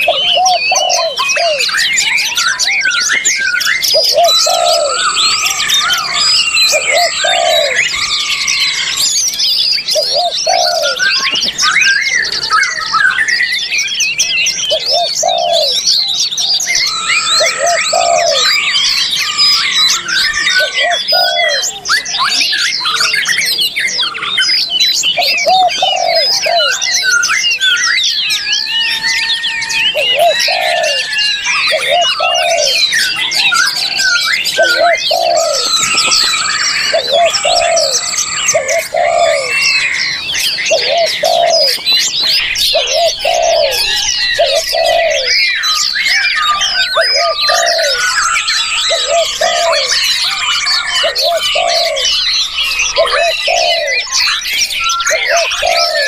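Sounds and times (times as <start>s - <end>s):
dove cooing: 0.0s - 13.4s, 14.2s - 56.0s
songbirds chirping and whistling: 0.0s - 56.0s.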